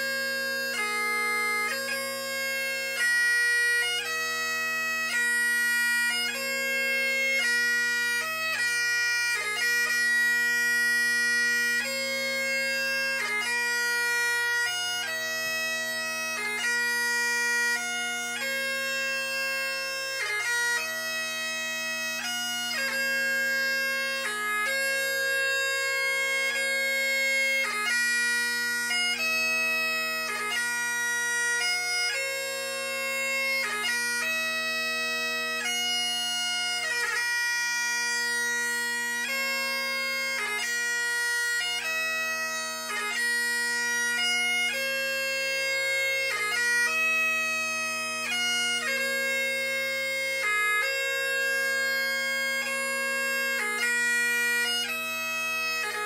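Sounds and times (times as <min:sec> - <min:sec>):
bagpipe drones: 0:00.0 - 0:56.0
bagpipe lament melody: 0:00.0 - 0:56.0.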